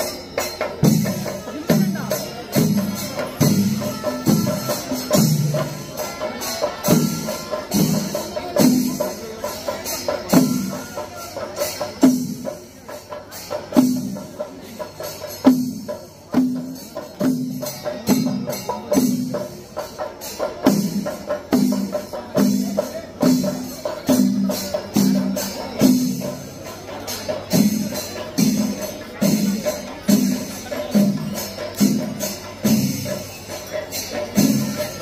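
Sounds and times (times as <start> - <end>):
metal cymbal clashes: 0.0 - 35.0.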